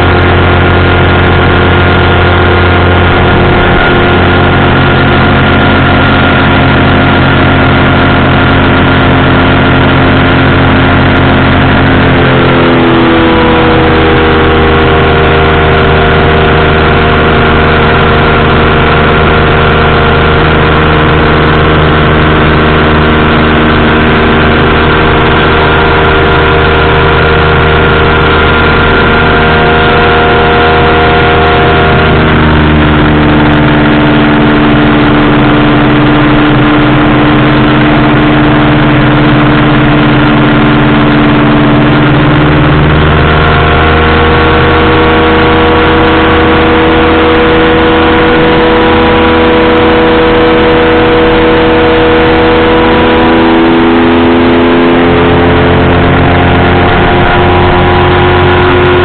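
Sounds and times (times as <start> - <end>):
engine and propeller running: 0.0 - 59.0.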